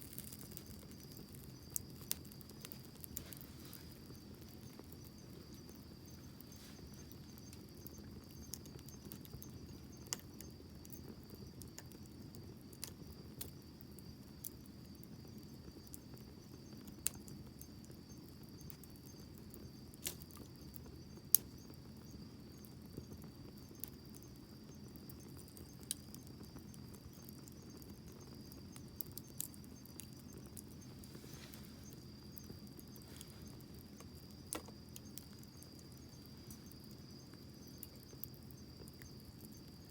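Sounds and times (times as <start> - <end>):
bonfire crackling and popping: 0.0 - 39.9
low rumble of flames: 0.0 - 39.9.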